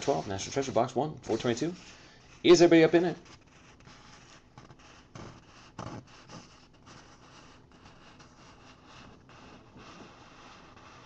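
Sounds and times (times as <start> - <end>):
paper rubbing and rustling: 0.0 - 11.0
soft paper scrapes: 0.0 - 11.0.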